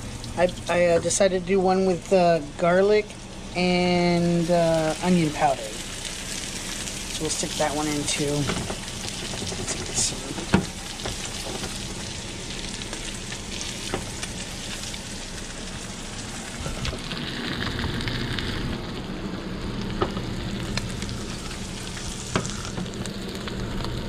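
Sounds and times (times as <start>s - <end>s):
fish sizzling in butter: 3.3s - 24.0s.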